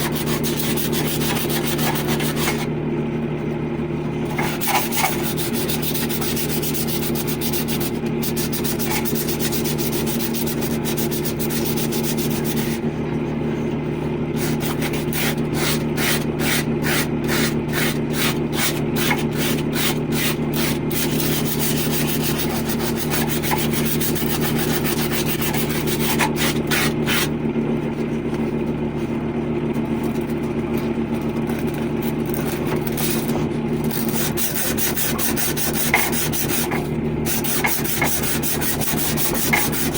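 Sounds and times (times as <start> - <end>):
sandpaper scraping copper pipe: 0.0 - 2.7, 4.4 - 12.8, 14.4 - 27.3, 31.4 - 39.9.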